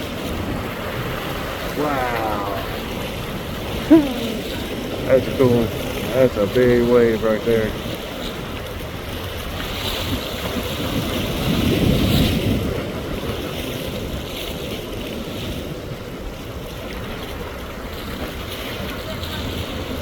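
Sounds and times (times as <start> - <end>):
waves breaking over rocks: 0.0 - 20.0.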